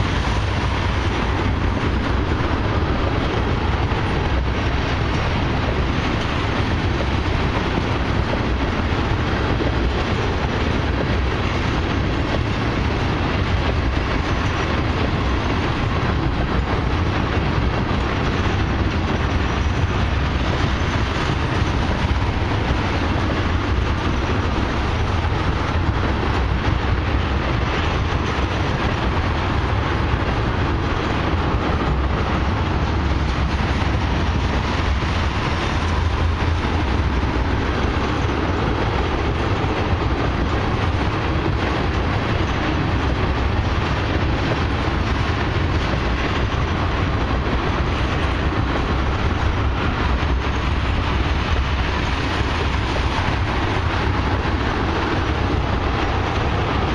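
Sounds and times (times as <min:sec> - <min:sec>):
freight train wheels rumbling on rail: 0:00.0 - 0:56.9.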